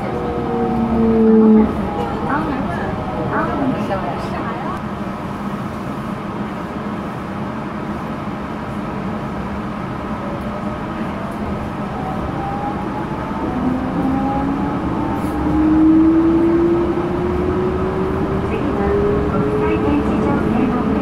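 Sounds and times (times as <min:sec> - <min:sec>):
train rolling rumble: 0:00.0 - 0:21.0.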